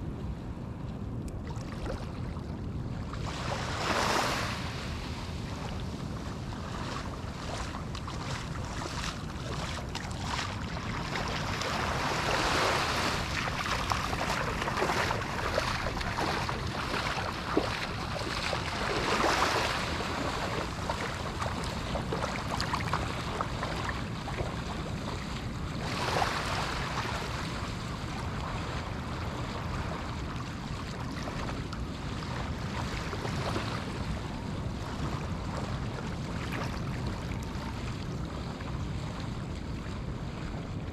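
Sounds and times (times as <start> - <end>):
low rumble of surf: 0.0 - 40.9
waves breaking on sandy beach: 1.5 - 40.9.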